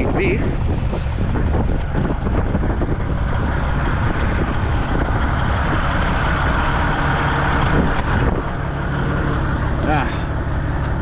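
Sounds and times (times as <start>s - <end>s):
steady rushing noise: 0.0s - 11.0s
truck diesel engine running: 0.0s - 11.0s.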